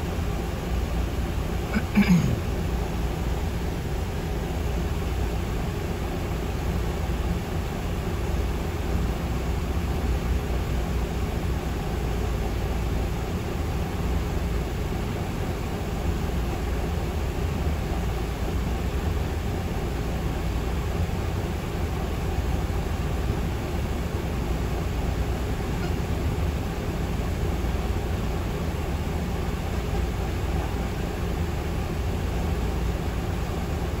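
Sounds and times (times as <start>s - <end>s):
diesel engine rumble: 0.0s - 34.0s.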